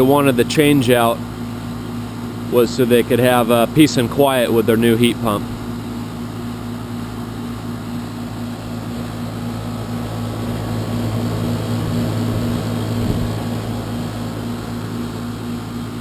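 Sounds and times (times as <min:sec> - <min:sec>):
fan noise: 0:00.0 - 0:16.0
heat pump low hum: 0:00.0 - 0:16.0.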